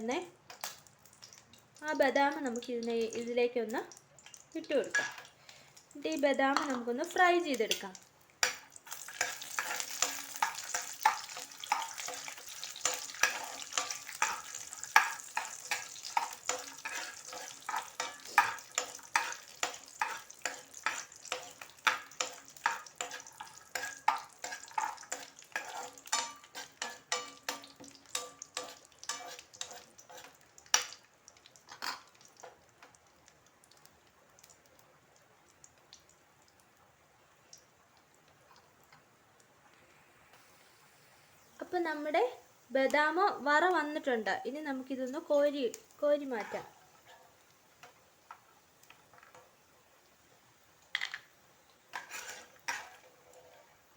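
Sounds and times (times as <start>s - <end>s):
almonds sizzling in a pan: 0.0s - 53.9s.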